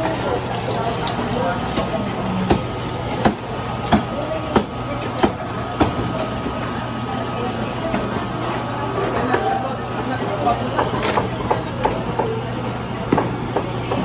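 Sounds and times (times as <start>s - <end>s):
meat grinder motor hum: 0.0s - 14.0s.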